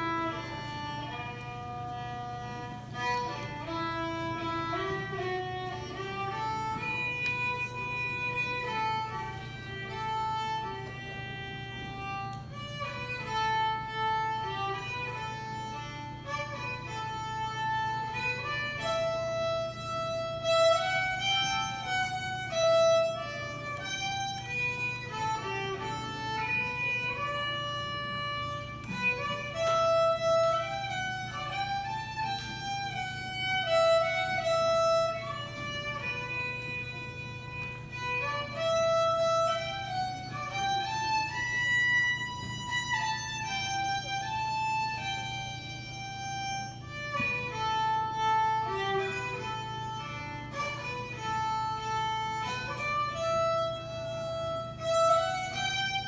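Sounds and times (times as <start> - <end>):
violin melody: 0.0 - 56.0.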